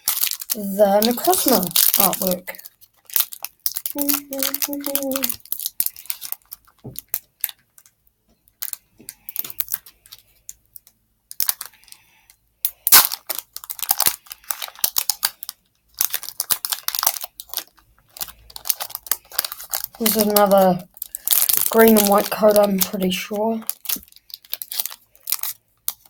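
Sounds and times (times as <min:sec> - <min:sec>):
foil wrapper tearing and crinkling: 0:00.0 - 0:26.0.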